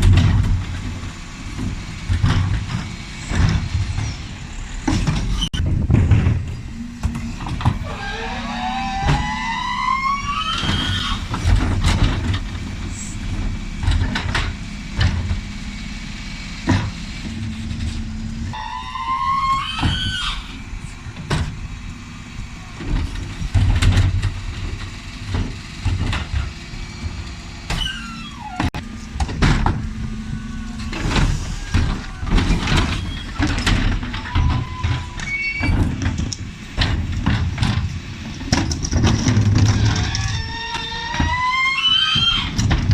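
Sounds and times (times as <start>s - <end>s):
lorry engine whine: 0.0s - 42.9s
wheelie bins banging and clattering: 0.0s - 42.9s.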